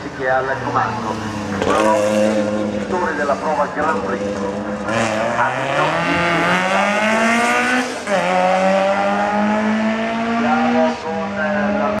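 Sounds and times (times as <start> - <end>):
rally car engine accelerating: 0.9 - 12.0.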